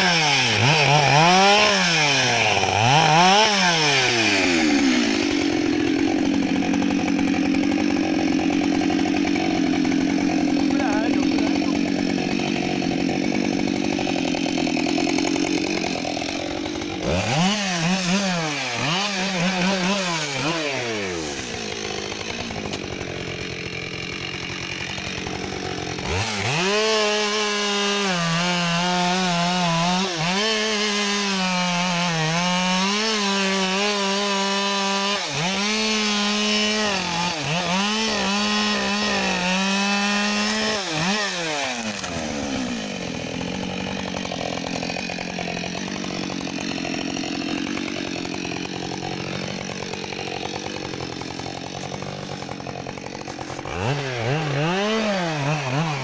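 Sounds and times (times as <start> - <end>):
chainsaw revving: 0.0 - 56.0
chainsaw sawing through tree trunk: 0.0 - 56.0.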